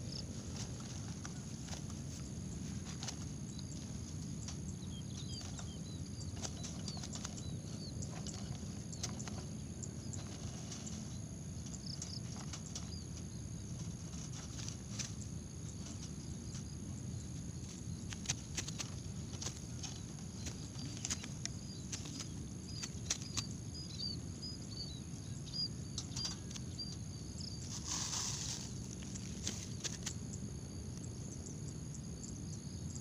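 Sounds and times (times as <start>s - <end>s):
dove fluttering: 0.0s - 31.1s
small birds chirping: 0.0s - 33.0s.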